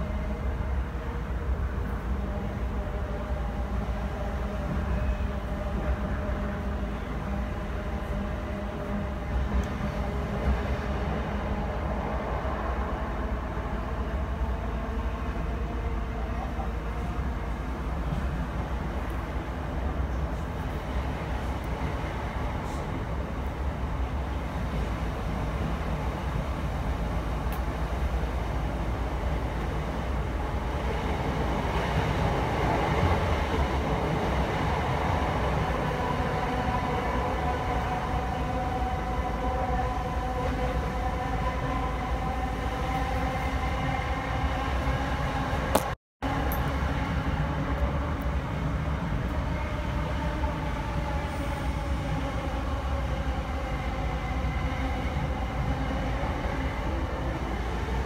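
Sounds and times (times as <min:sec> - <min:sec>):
train rumbling on track: 0:00.0 - 0:58.0
train whine shifting in pitch: 0:00.0 - 0:58.0.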